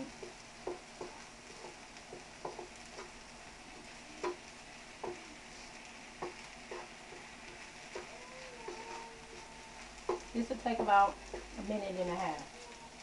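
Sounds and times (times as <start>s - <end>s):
rice sizzling in oil: 0.0s - 13.0s
utensil scraping and knocking wok: 0.0s - 13.0s.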